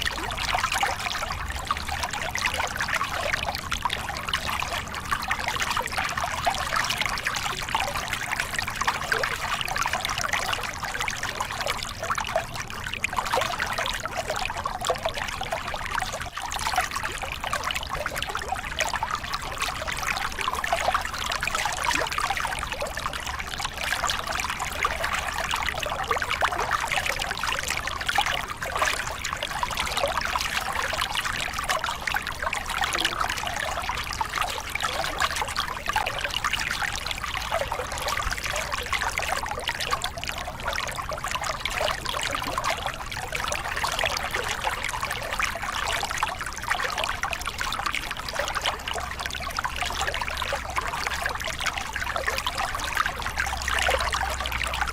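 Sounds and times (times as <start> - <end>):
water splashing over rocks: 0.0 - 54.9.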